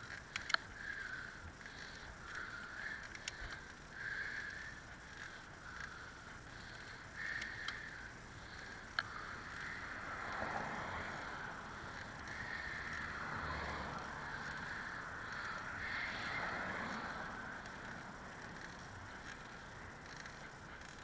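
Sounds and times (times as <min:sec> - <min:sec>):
bicycle tyre and drivetrain noise: 0:00.0 - 0:21.0
bike clicks: 0:00.0 - 0:21.0
motor vehicle passing: 0:04.0 - 0:21.0.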